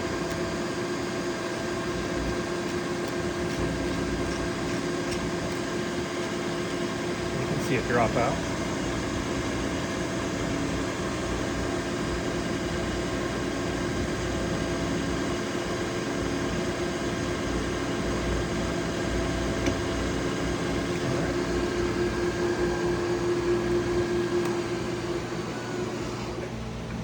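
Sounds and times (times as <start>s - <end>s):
milling machine humming: 0.0s - 27.0s.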